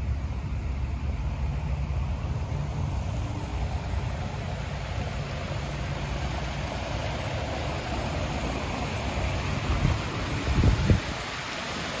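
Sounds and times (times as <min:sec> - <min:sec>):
waterfall rushing into pond: 0:00.0 - 0:12.0.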